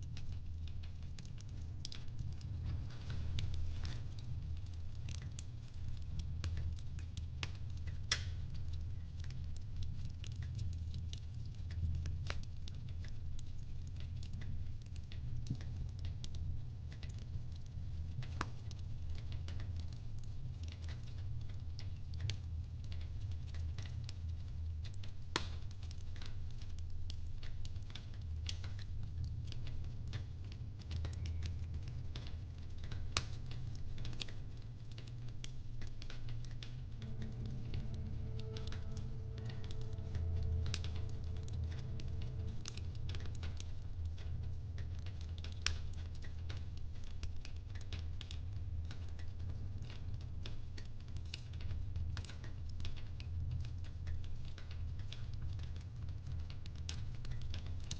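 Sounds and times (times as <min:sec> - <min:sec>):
fire popping and snapping: 0:00.0 - 0:57.9
fire rumbling: 0:00.0 - 0:57.9.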